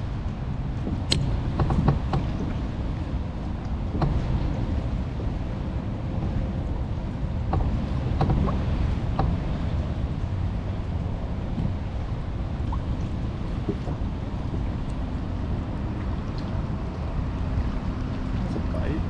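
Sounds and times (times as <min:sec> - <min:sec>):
water lapping against kayak: 0:00.0 - 0:19.0
wind buffeting microphone: 0:00.0 - 0:19.0.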